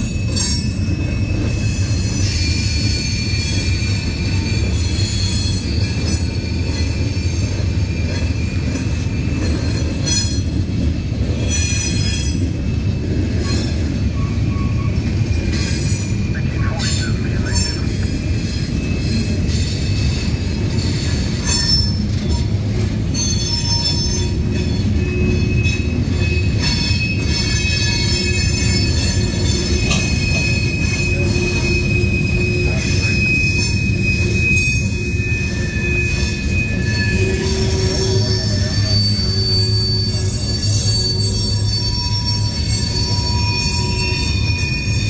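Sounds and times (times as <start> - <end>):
high-pitched wheel squeals: 0.0 - 10.6, 11.4 - 45.0
train wheels rumbling on rail: 0.0 - 45.0.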